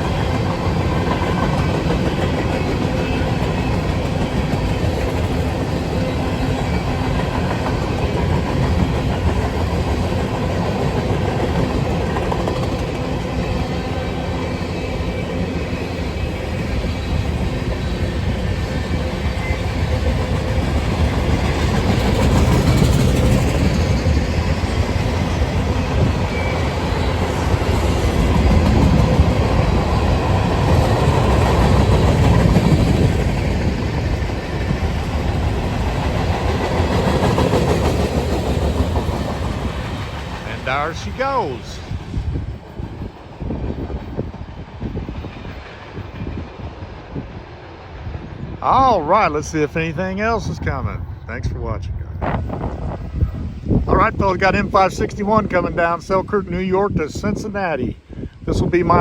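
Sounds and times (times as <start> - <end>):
wheels clacking on rails: 0.0 - 48.9
freight train rolling past: 0.0 - 59.0.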